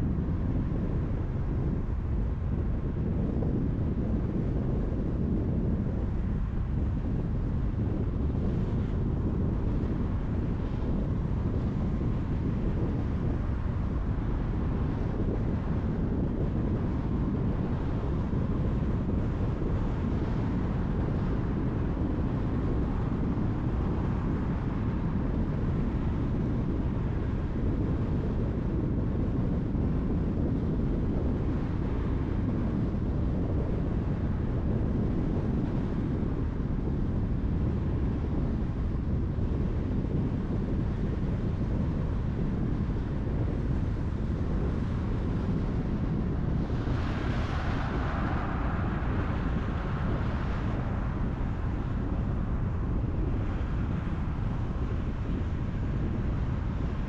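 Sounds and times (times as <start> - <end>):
car tyre and wind rumble: 0.0 - 57.0.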